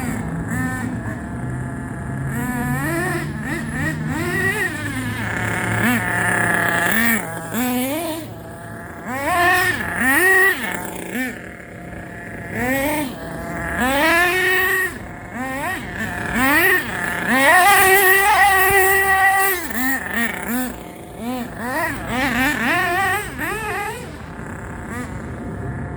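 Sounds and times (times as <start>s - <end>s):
small nitro engine revving: 0.0s - 25.9s.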